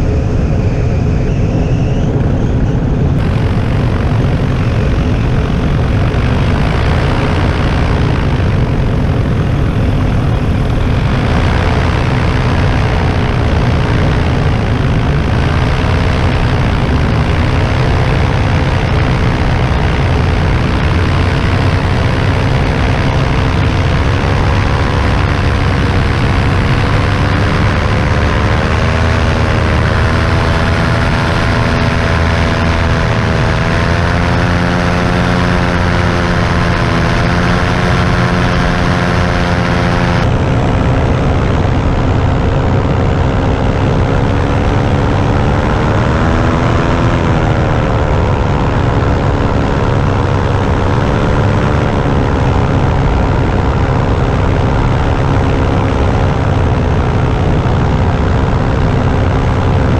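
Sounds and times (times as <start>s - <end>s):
paramotor engine and propeller: 0.0s - 59.9s.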